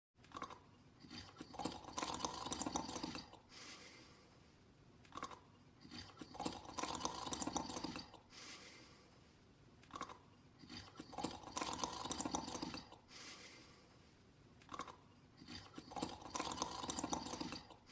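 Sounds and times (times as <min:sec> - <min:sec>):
slow snoring: 0:00.3 - 0:04.5, 0:05.1 - 0:17.9.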